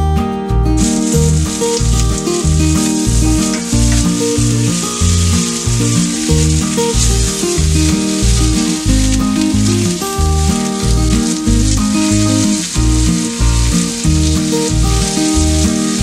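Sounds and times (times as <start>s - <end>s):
background music: 0.0s - 16.0s
meat and onions sizzling on grill pan: 0.8s - 16.0s.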